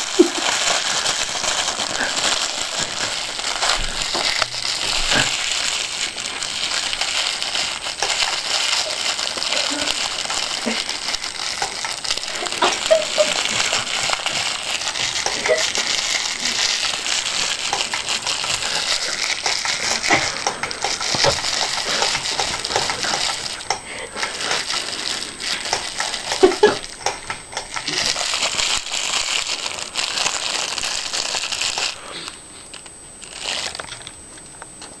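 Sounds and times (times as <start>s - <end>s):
cellophane wrap crinkling: 0.0s - 35.0s.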